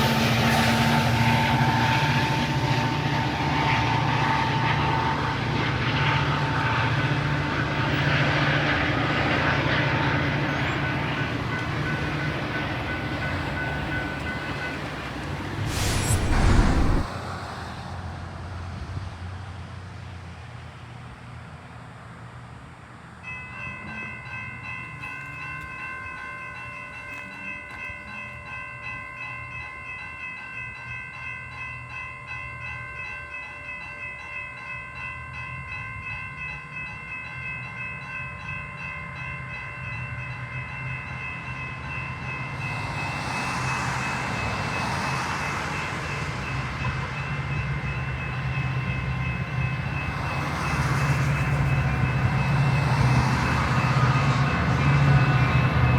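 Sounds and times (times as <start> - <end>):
crossing bell ringing: 0.0 - 16.3, 23.2 - 55.9
train approaching: 0.0 - 55.9.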